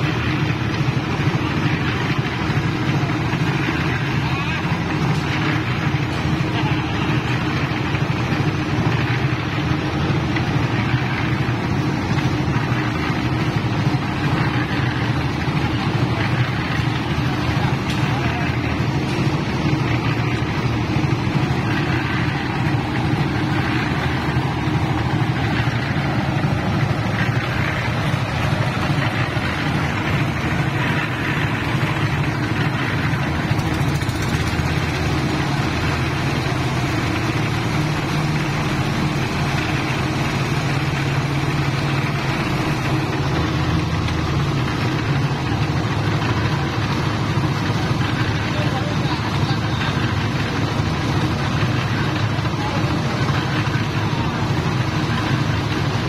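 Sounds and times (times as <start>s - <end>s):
cement mixer engine running: 0.0s - 56.0s.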